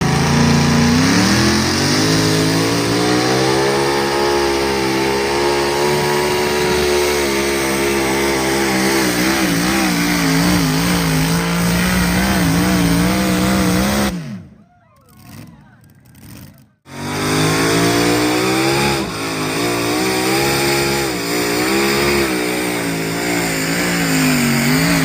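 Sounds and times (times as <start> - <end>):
tractor engine revving high: 0.0 - 25.0.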